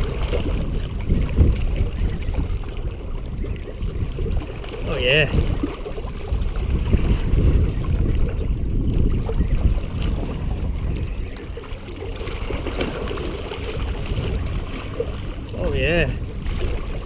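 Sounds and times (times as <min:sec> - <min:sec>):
small waves washing against rocks: 0:00.0 - 0:17.0
wind buffeting microphone: 0:00.0 - 0:17.0.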